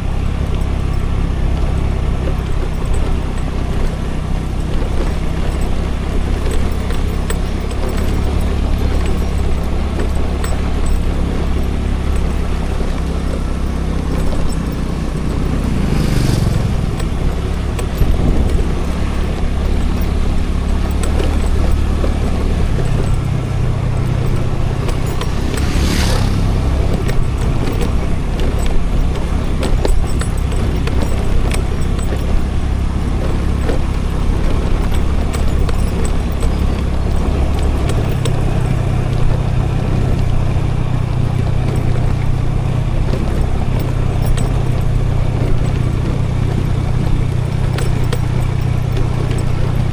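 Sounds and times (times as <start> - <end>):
light rattles: 0.0 - 49.9
road and wind noise: 0.0 - 49.9
scooter engine hum: 0.0 - 49.9.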